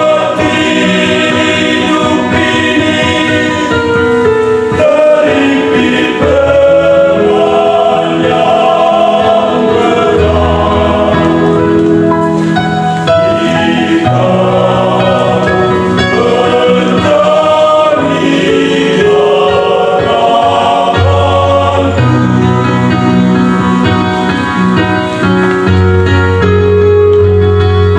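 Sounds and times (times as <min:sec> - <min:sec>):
choir singing gospel song: 0:00.0 - 0:24.4.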